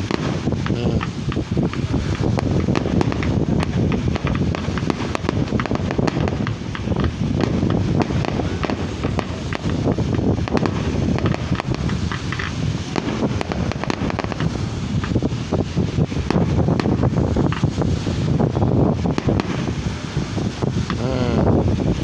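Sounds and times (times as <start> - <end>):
fireworks popping and crackling: 0.0 - 22.0
low rumble: 0.0 - 22.0.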